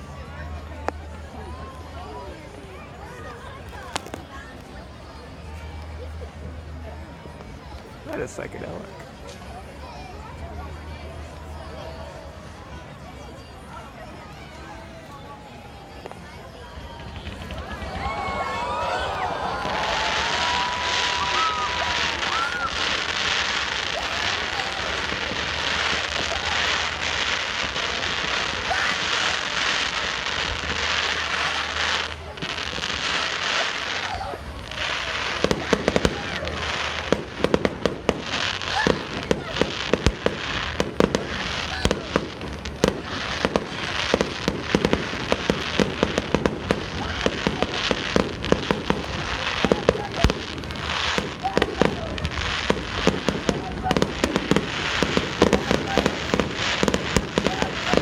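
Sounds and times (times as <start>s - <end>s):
continuous hiss: 0.0s - 58.0s
fireworks crackling: 0.0s - 58.0s.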